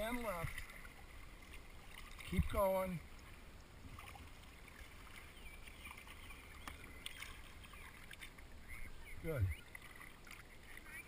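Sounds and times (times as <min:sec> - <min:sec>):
kayak paddle splashing water: 0:00.0 - 0:11.0.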